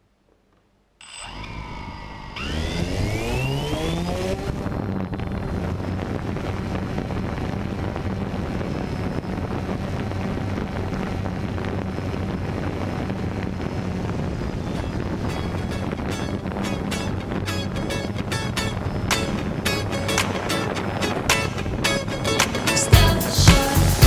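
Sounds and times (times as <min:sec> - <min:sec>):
drone motors whining: 0:01.0 - 0:23.4.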